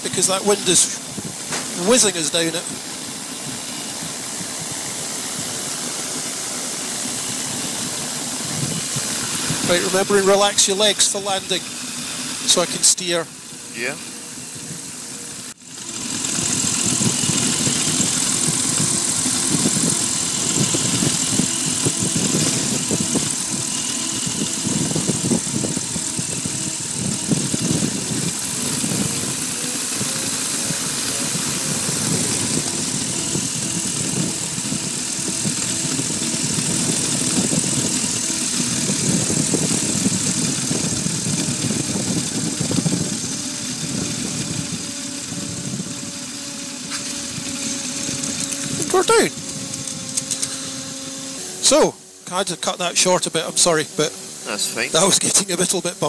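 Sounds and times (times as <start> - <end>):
wind rush on microphone: 0.0 - 10.6, 16.0 - 51.1
microlight engine and propeller: 0.0 - 56.0.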